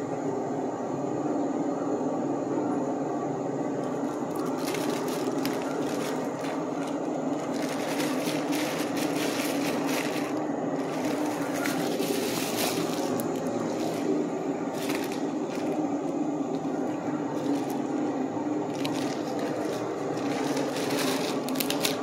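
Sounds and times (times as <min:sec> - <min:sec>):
steady background hum: 0:00.0 - 0:22.0
plastic bag crinkling: 0:03.8 - 0:22.0.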